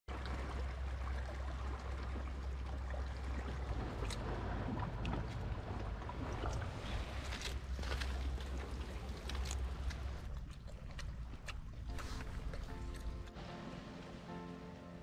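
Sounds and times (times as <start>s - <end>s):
wind rumble on microphone: 0.1s - 13.3s
water splashing and sloshing: 0.1s - 15.0s.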